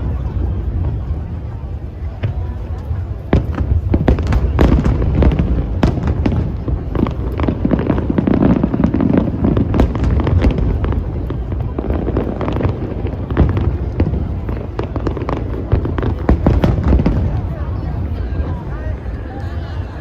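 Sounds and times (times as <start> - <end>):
fireworks booming: 0.0 - 19.6
fireworks crackling pops: 0.0 - 19.6.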